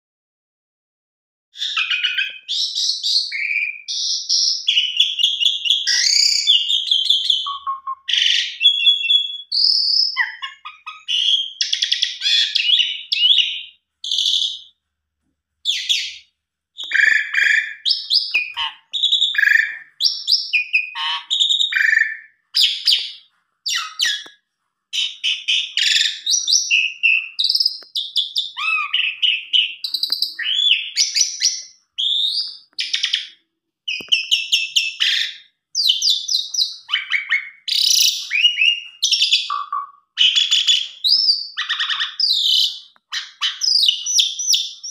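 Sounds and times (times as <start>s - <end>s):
starling singing: 1.6s - 14.7s, 15.7s - 24.3s, 25.0s - 44.9s.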